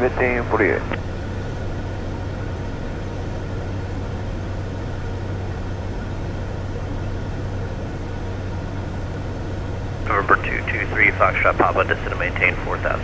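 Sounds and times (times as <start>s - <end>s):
turboprop cabin drone: 0.0s - 13.0s.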